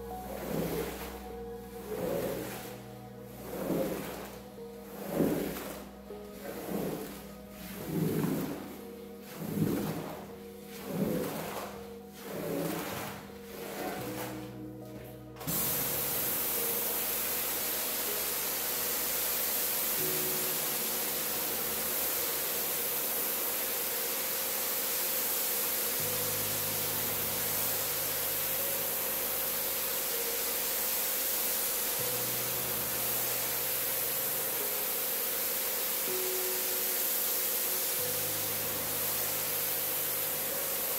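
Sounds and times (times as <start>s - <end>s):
pressure washer spraying water: 0.0s - 14.4s, 15.4s - 40.9s.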